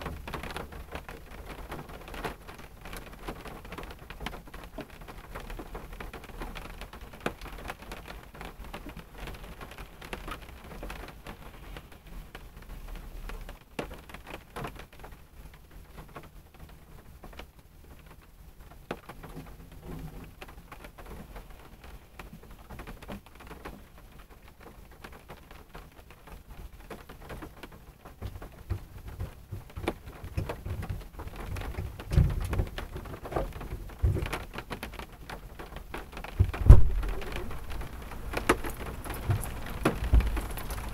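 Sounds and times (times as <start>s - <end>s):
rain on a car roof: 0.0s - 40.9s.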